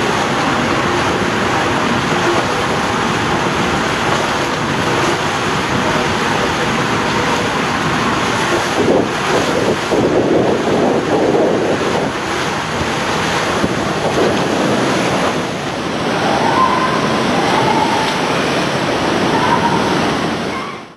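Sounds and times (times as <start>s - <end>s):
water rushing in slide tube: 0.0s - 20.9s.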